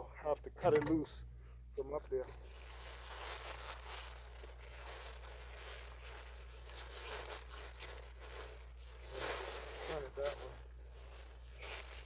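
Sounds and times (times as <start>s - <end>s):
flexible ductwork crinkling: 2.2s - 12.0s.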